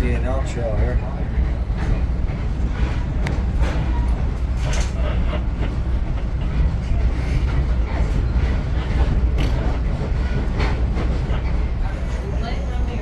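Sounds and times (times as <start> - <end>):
train wheels on rails rumbling: 0.0 - 13.0.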